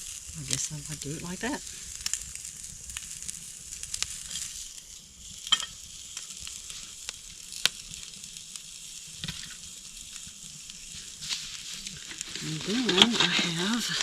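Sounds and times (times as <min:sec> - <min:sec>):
burger sizzling on grill: 0:00.0 - 0:14.0
sharp crackles: 0:00.0 - 0:14.0.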